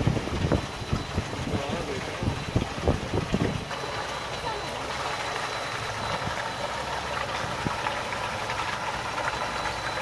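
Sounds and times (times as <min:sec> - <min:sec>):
outboard motor running: 0:00.0 - 0:10.0
water washing along hull: 0:00.0 - 0:10.0.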